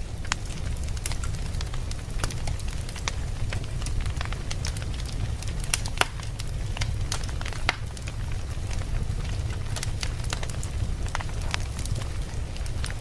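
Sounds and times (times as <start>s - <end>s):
fire crackling and popping: 0.0s - 13.0s
low rumble of fire: 0.0s - 13.0s.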